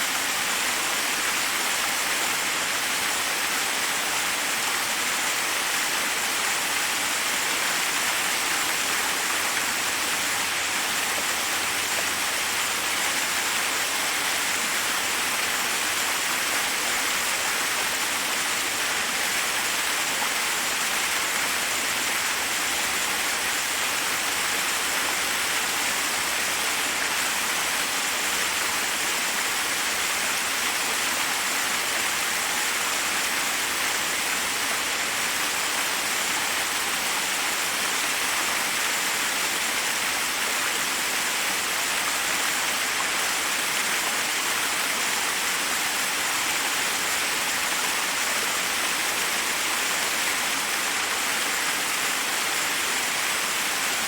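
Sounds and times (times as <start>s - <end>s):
waterfall cascading over rocks: 0.0s - 54.0s.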